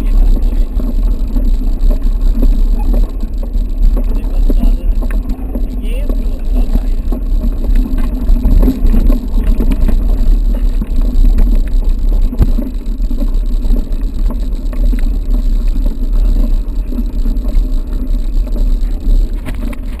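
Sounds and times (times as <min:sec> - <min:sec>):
bike rattling and knocking: 0:00.0 - 0:20.0
wind rumble on microphone: 0:00.0 - 0:20.0.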